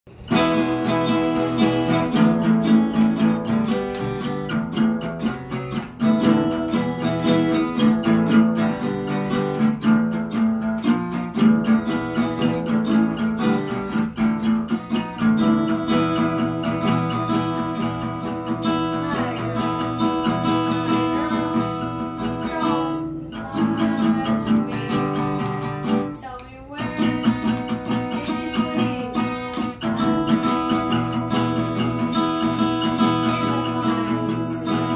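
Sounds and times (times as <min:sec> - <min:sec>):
acoustic guitar strumming chords: 0:00.1 - 0:34.9.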